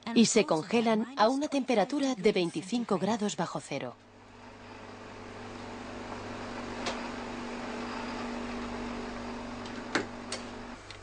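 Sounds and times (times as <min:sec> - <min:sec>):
freezer humming: 0:00.2 - 0:11.0.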